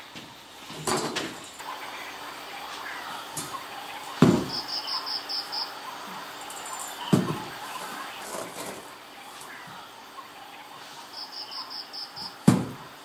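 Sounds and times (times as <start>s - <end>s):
cricket chirping: 0.9s - 8.2s, 9.1s - 12.5s.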